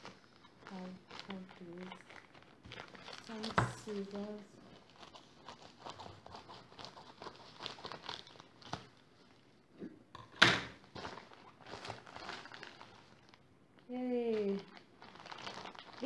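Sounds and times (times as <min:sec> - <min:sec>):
plastic crinkling: 0:00.0 - 0:09.6, 0:10.7 - 0:16.0.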